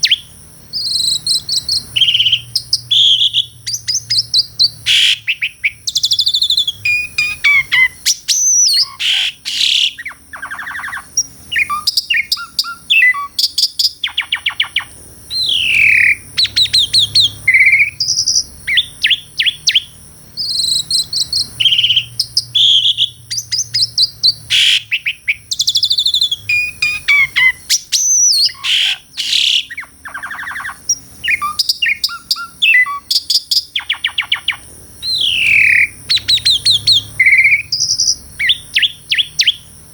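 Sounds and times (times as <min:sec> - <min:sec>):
starling singing varied song: 0:00.0 - 0:39.9.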